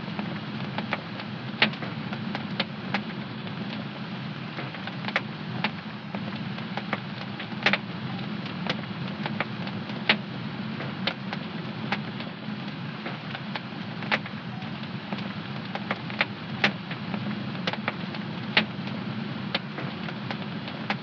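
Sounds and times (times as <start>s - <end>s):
wood fire crackling: 0.0s - 21.0s
fire popping: 0.1s - 21.0s.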